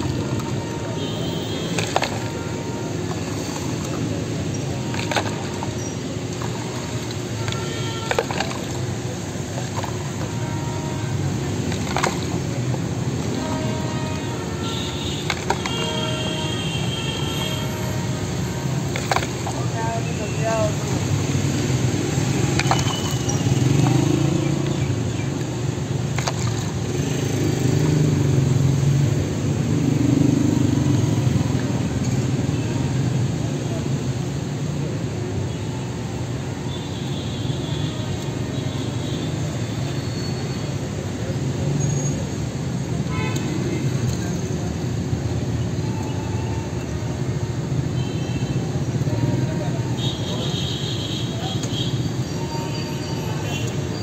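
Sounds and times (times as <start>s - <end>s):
vehicle engines humming: 0.0s - 54.0s.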